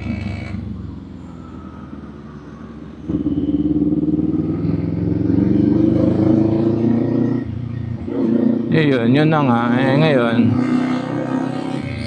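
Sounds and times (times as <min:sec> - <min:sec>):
motorcycle engine revving: 0:00.0 - 0:02.4, 0:03.0 - 0:12.0.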